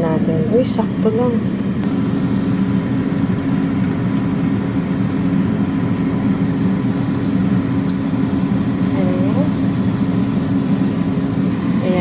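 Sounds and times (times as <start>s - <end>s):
loud machine hum: 0.0s - 12.0s.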